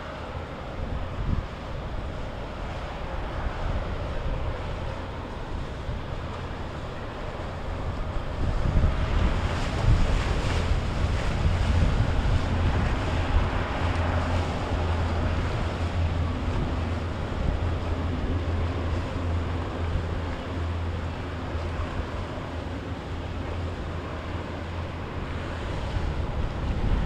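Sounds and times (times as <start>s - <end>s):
motorboat engine hum: 0.0s - 27.0s
water wash: 0.0s - 27.0s
wind noise on microphone: 0.0s - 27.0s.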